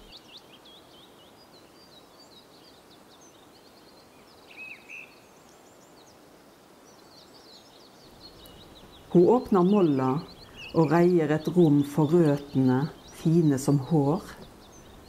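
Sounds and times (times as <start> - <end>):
soft outdoor hiss: 0.0 - 15.0
songbirds chirping and trilling: 0.0 - 15.0.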